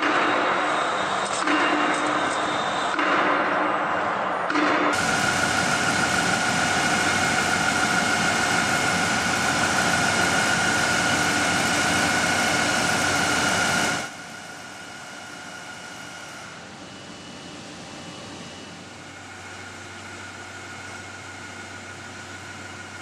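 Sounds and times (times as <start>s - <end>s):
industrial machinery whine: 0.0s - 23.0s.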